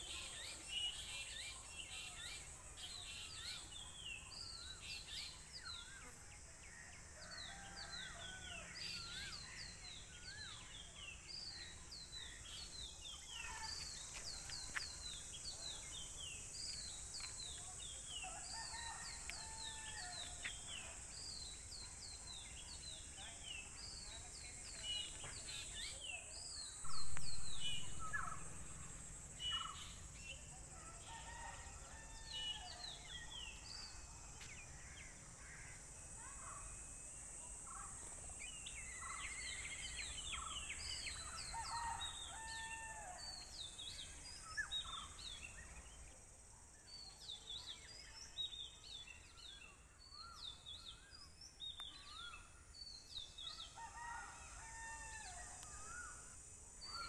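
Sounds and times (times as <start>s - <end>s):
songbirds chirping: 0.0s - 57.0s
steady high-pitched hiss: 0.0s - 57.0s.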